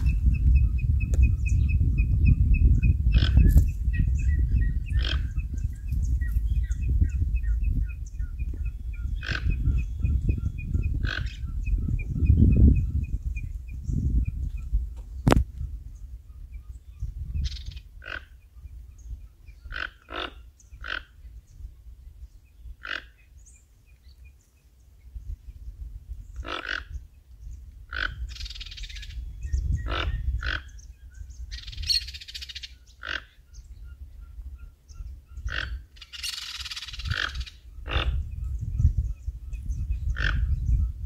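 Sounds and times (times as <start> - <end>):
birds calling sharp notes: 0.0 - 21.7, 22.3 - 25.3, 26.2 - 41.0
wind rumble on microphone: 0.0 - 41.0.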